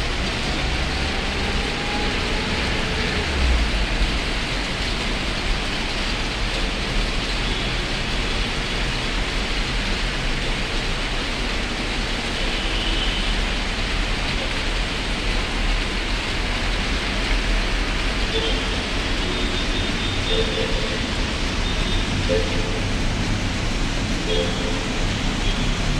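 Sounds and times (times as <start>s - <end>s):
rain on wet street: 0.0s - 25.9s.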